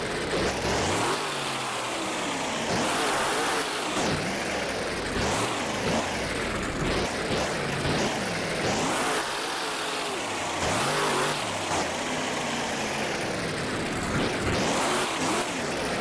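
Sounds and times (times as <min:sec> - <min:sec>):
truck engine revving: 0:00.2 - 0:16.0.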